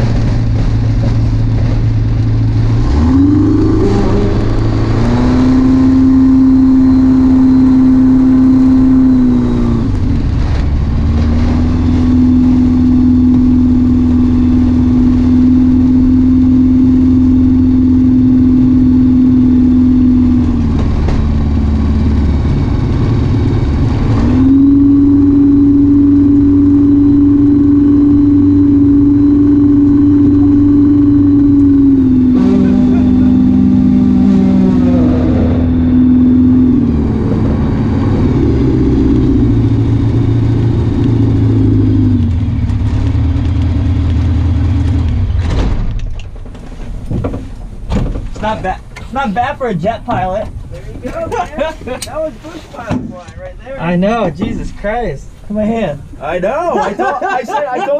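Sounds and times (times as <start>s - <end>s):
aircraft engine and propeller running: 0.0s - 48.2s.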